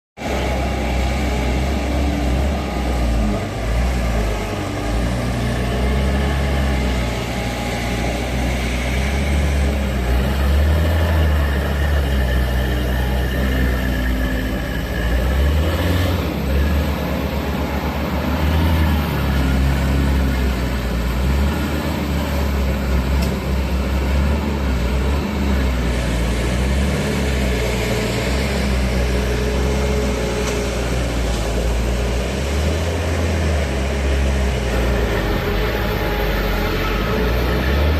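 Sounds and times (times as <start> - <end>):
diesel engine running: 0.2 - 37.9.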